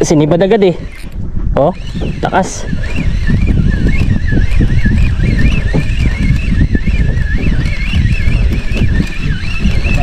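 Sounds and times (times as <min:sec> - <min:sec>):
boat engine running: 0:00.0 - 0:10.0
wavering high whine: 0:00.0 - 0:10.0
wind buffeting microphone: 0:00.0 - 0:10.0.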